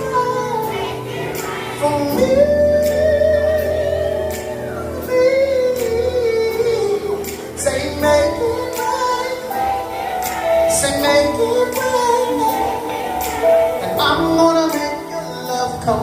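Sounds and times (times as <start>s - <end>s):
drums with cymbal beat: 0.0s - 16.0s
high wordless vocals: 0.0s - 16.0s
live band music: 0.0s - 16.0s.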